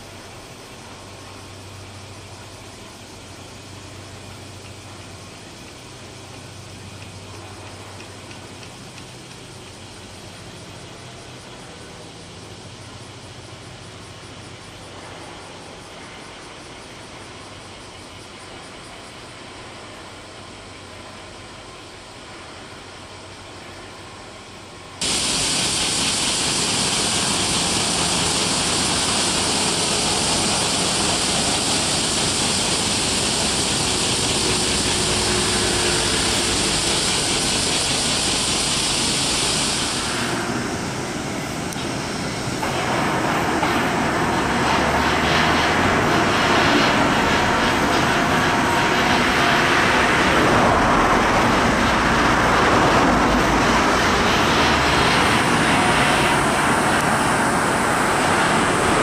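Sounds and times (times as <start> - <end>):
high hiss: 0.0 - 59.0.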